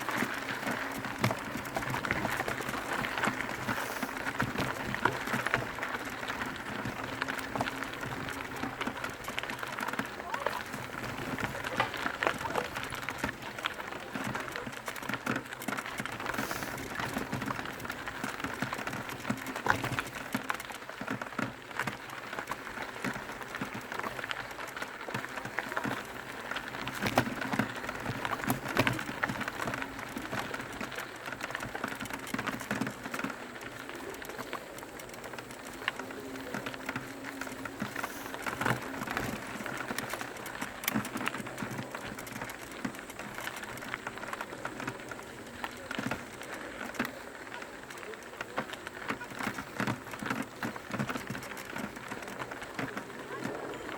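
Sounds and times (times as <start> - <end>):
bike rattling and knocking: 0.0 - 53.9
bike tyres rolling over gravel: 0.0 - 53.9.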